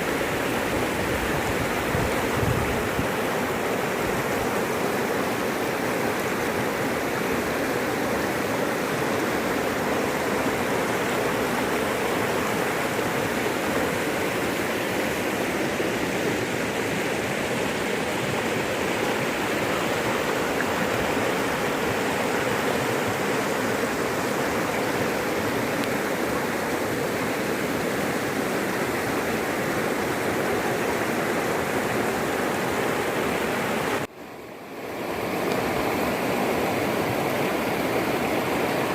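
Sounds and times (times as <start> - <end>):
rushing floodwater roar: 0.0 - 38.9.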